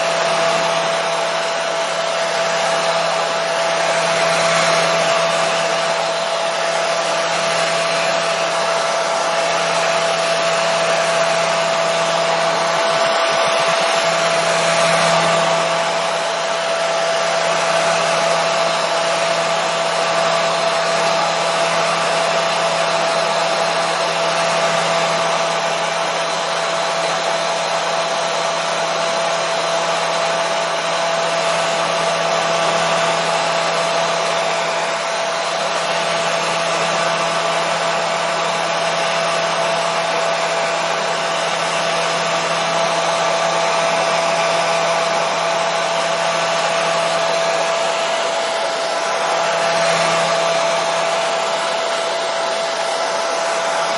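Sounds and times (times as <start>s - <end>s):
hair dryer running: 0.0s - 53.9s.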